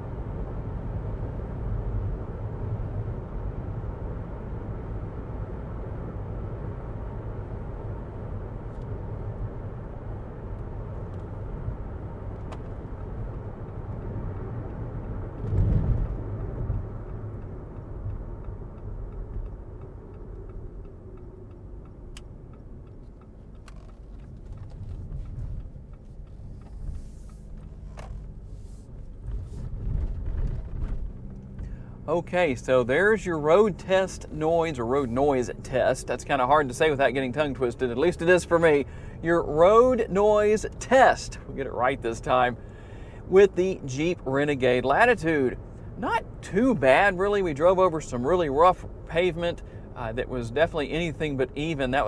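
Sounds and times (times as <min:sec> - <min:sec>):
road and tyre noise in car: 0:00.0 - 0:52.0.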